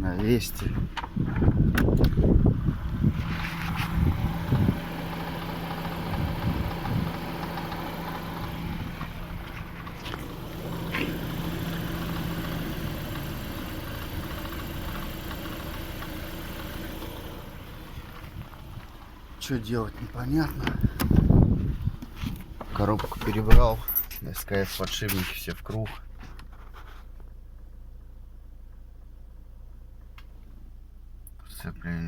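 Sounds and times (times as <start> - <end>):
car engine idling: 0.0 - 24.0, 27.1 - 32.0.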